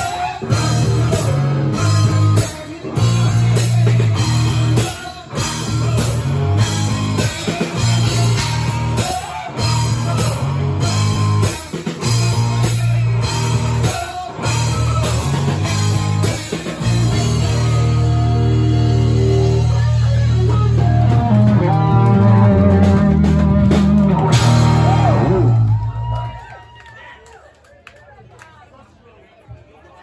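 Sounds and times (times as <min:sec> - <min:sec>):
drum kit with cymbals: 0:00.0 - 0:25.4
bass notes: 0:00.0 - 0:26.2
electric guitar: 0:00.0 - 0:26.4.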